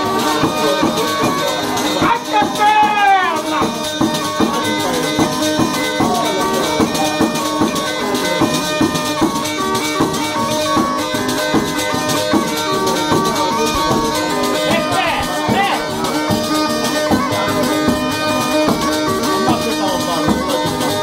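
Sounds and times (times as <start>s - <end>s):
folk dance music: 0.0s - 21.0s
jingling rattling percussion: 0.0s - 21.0s.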